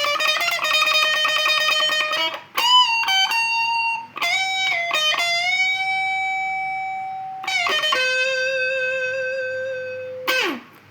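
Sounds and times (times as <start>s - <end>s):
slow guitar melody: 0.0s - 10.9s.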